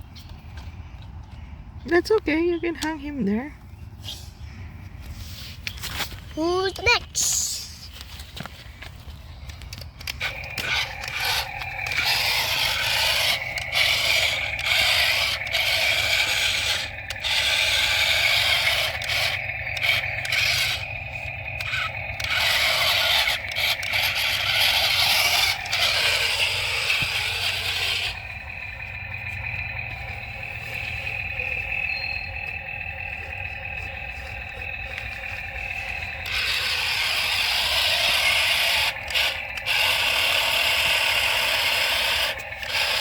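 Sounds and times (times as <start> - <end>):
faint steady whine: 0.0 - 43.0
toy excavator scraping sand: 5.1 - 31.8, 32.7 - 43.0
low steady hum: 7.3 - 43.0.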